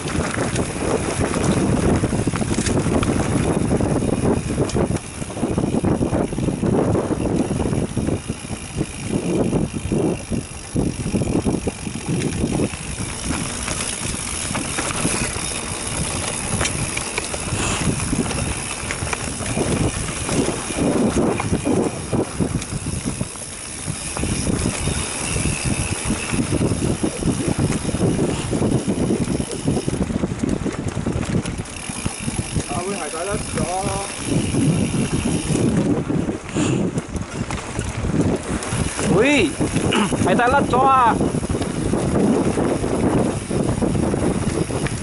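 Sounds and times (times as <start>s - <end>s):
bike rattling over bumps: 0.0s - 45.0s
bike tyres running over dirt: 0.0s - 45.0s.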